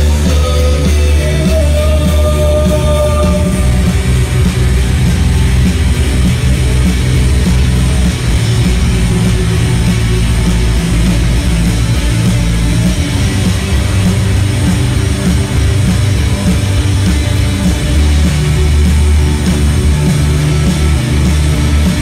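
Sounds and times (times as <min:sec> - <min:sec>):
bass guitar: 0:00.0 - 0:22.0
drum kit: 0:00.0 - 0:22.0
electric guitars: 0:00.0 - 0:22.0
keyboard: 0:00.0 - 0:22.0.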